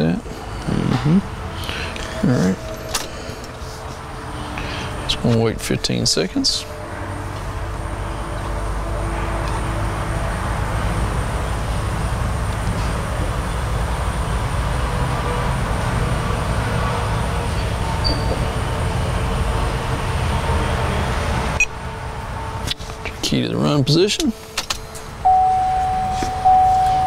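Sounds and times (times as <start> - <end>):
machinery rumble and hiss: 0.0 - 27.0.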